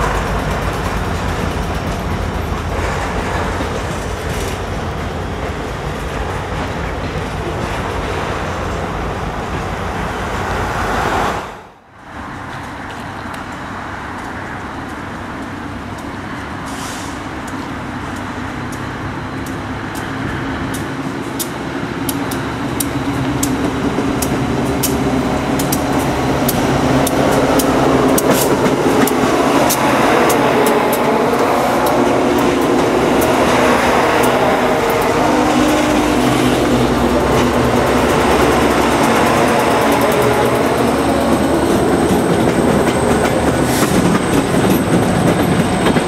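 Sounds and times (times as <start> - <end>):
wheels clicking on rails: 0.0 - 10.1, 17.4 - 46.0
diesel locomotive engines: 0.0 - 46.0
freight cars rolling over bridge: 0.0 - 46.0.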